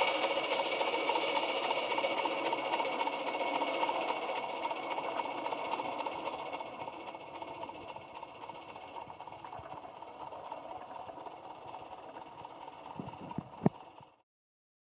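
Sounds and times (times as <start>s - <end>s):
steam locomotive exhaust: 0.0s - 14.2s.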